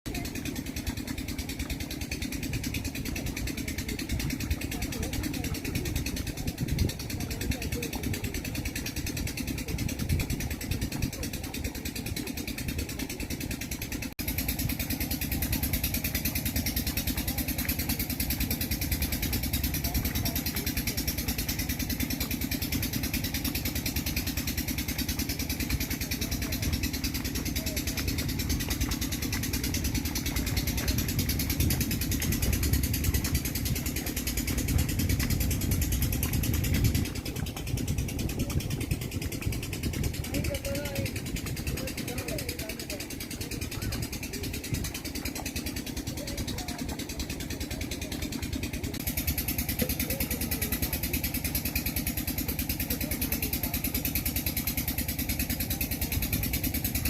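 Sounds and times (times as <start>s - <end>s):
tractor engine chugging: 0.0s - 57.0s.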